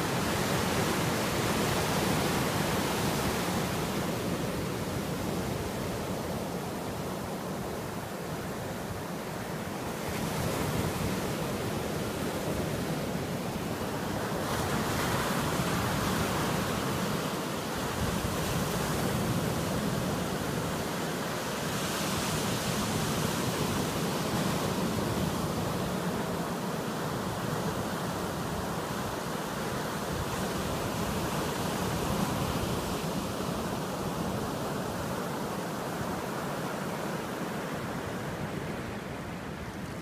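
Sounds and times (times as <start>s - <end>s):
sea surf breaking on beach: 0.0s - 40.0s.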